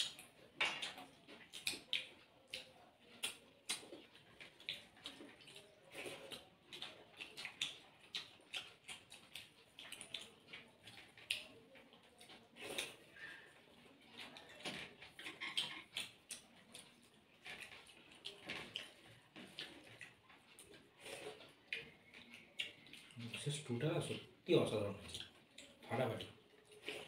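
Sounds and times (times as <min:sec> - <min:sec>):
chewing and lip smacking: 0:00.0 - 0:27.0.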